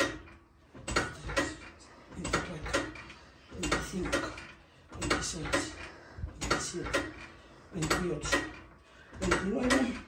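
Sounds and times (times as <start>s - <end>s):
exercise machine clanking: 0.0s - 10.0s.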